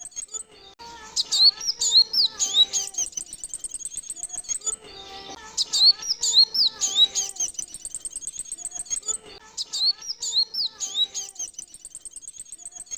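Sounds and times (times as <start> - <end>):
sunbird twittering: 1.1 - 12.9
sharp down-slurred whistles: 1.2 - 4.8, 5.6 - 12.9.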